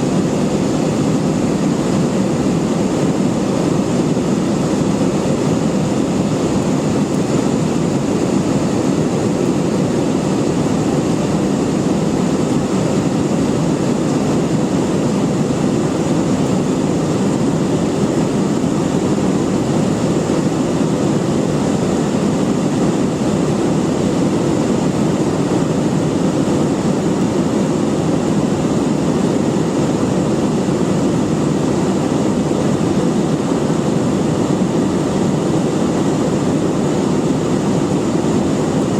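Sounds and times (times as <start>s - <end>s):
airliner engines droning: 0.0s - 38.9s
rushing air in cabin: 0.0s - 38.9s.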